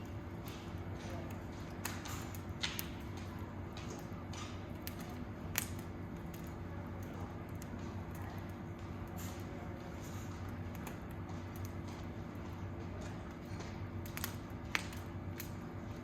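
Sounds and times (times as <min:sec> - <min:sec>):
burning wood crackling: 0:00.0 - 0:16.0
sharp pops of burning wood: 0:00.0 - 0:16.0
steady low hum: 0:00.0 - 0:16.0.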